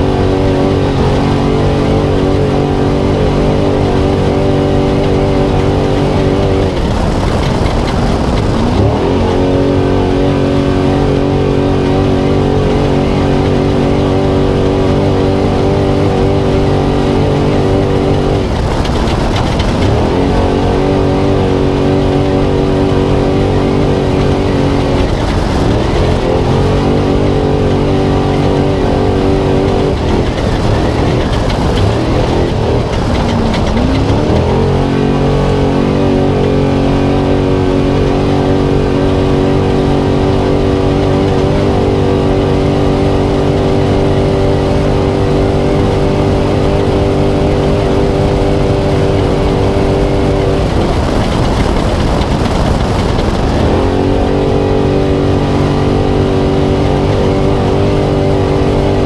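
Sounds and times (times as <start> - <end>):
off-road driving noise: 0.0 - 59.0
race truck engine at high revs: 0.0 - 59.0
rushing wind: 0.0 - 59.0.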